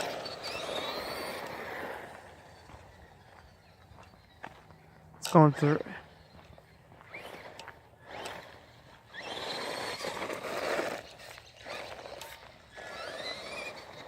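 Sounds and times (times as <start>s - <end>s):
electric motor whining: 0.0s - 14.0s
tyres crunching over gravel: 0.0s - 14.0s.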